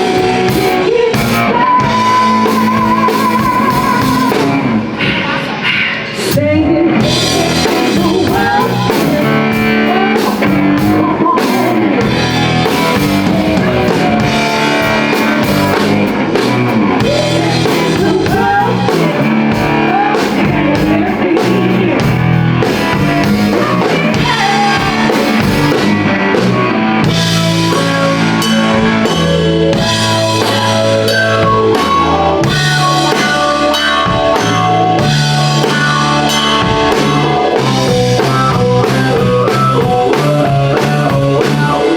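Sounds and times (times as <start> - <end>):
heavy bass line: 0.0 - 5.0, 7.0 - 41.9
blues-rock band playing: 0.0 - 5.6, 6.2 - 41.9.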